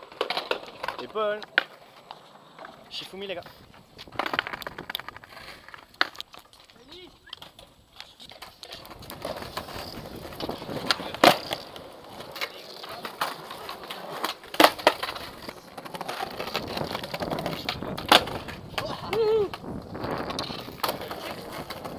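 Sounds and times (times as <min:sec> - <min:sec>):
skateboard clacking on ground: 0:00.0 - 0:21.9
skateboard wheels rolling on paving: 0:00.0 - 0:21.9.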